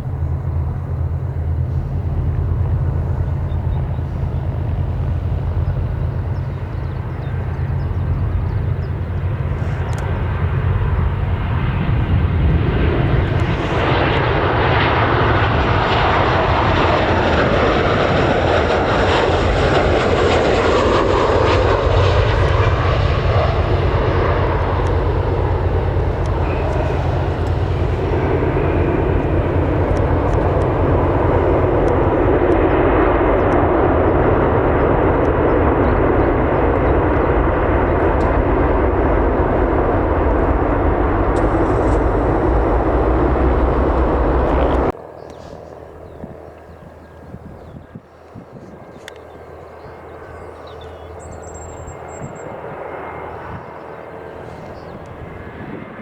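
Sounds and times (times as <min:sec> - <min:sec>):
aircraft engine roar: 0:00.0 - 0:56.0
steady low rumble: 0:00.0 - 0:56.0.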